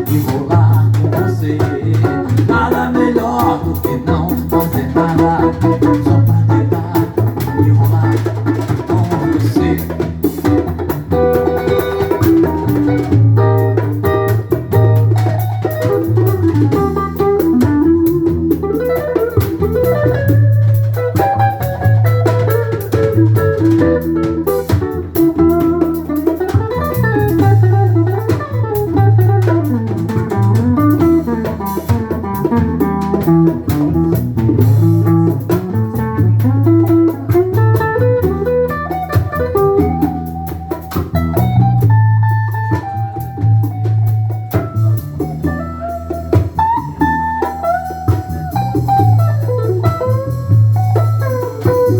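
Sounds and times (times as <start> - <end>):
instrumental band music: 0.0 - 51.9
electric guitar solo: 5.4 - 51.9.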